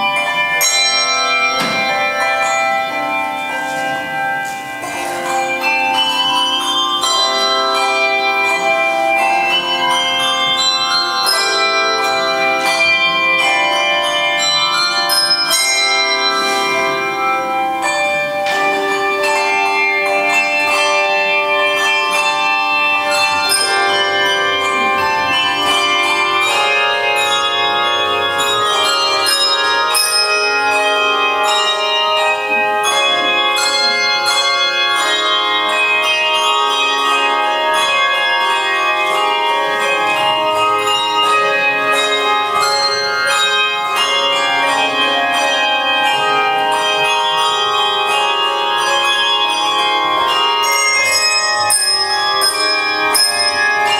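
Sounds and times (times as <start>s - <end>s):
handbell choir playing: 0.0s - 53.9s.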